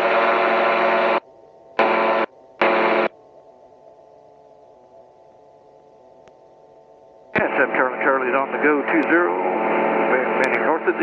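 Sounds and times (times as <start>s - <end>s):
engine and propeller noise: 0.0s - 11.0s.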